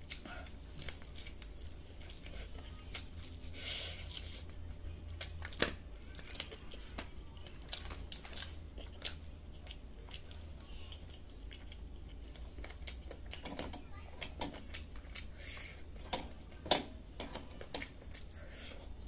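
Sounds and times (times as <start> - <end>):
low steady hum: 0.0 - 19.0
teeth tearing meat and chewing: 0.0 - 19.0.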